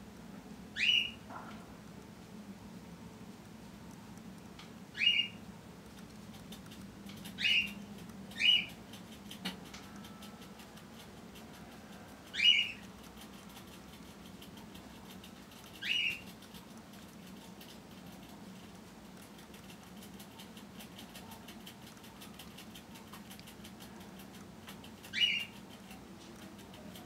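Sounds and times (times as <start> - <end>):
low steady hum: 0.0 - 27.0
small animal chirping: 0.8 - 1.3, 4.9 - 27.0.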